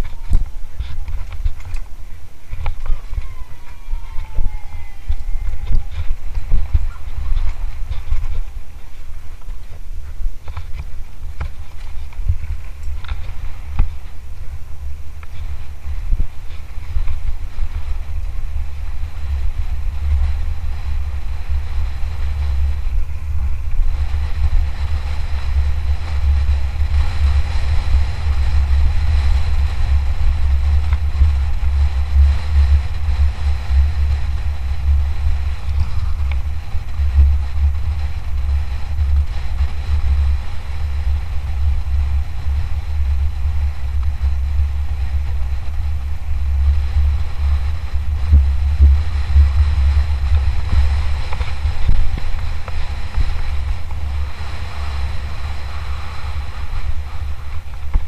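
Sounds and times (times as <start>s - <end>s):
bike tyres hissing over trail: 0.0s - 58.0s
wind rumble on microphone: 0.0s - 58.0s.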